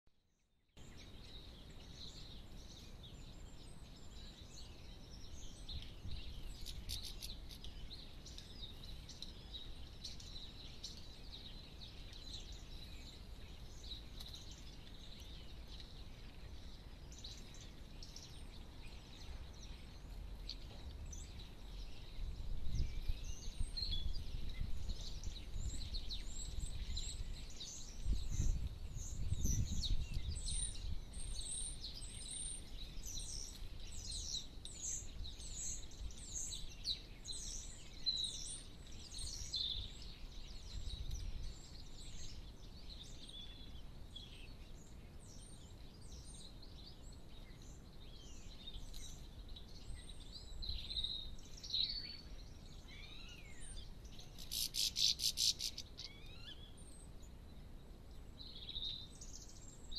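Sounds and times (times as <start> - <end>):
small songbirds twittering: 0.2 - 59.9.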